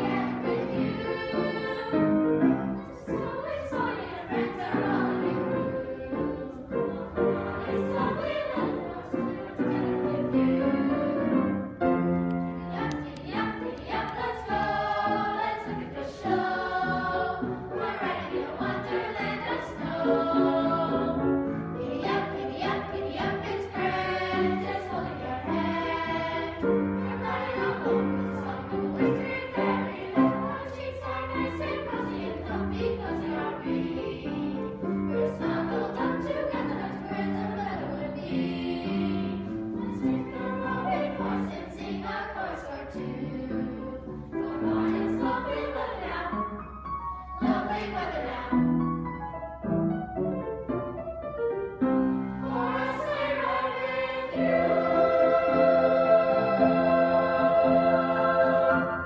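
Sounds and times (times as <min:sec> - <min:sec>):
children's choir singing: 0:00.0 - 0:49.0, 0:52.1 - 0:59.0
background music: 0:00.0 - 0:59.0.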